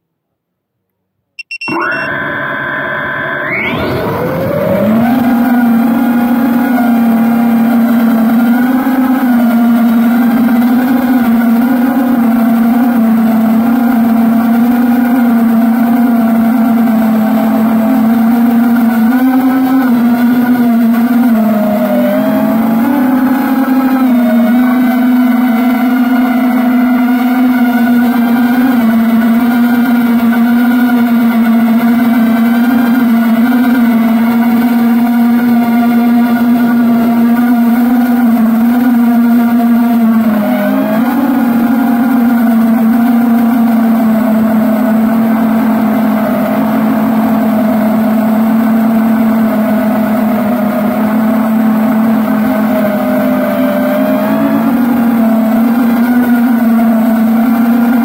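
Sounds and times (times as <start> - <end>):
motor running: 1.4 - 58.0.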